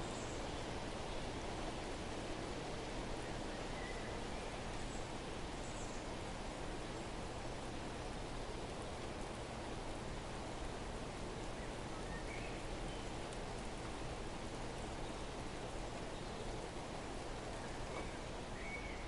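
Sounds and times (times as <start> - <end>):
light rain or rustling: 0.0 - 19.0.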